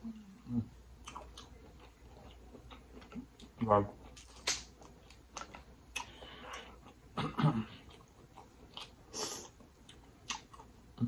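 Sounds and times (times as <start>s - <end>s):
person chewing: 0.2s - 11.0s.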